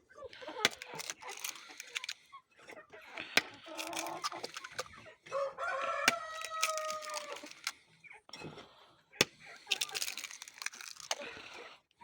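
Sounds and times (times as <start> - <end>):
chickens clucking: 0.0 - 11.7.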